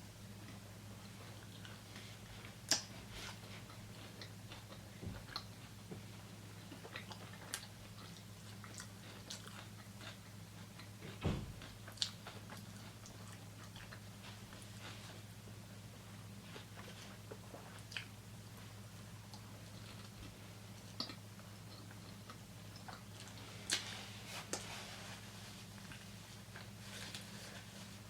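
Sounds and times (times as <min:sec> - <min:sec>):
faint steady low hum: 0:00.0 - 0:28.0
chewing and mouth sounds: 0:00.4 - 0:24.7.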